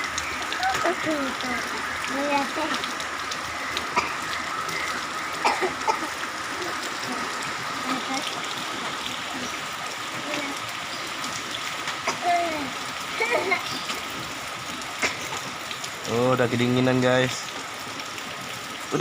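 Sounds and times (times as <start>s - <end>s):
rain pouring: 0.0s - 19.0s
running water: 0.0s - 19.0s.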